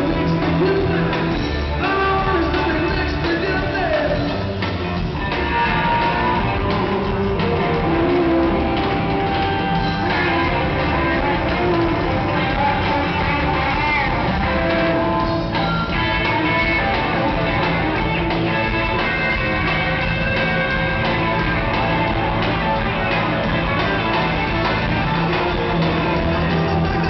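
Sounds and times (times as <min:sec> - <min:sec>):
guitar: 0:00.0 - 0:27.0
live band music over sound system: 0:00.0 - 0:27.0.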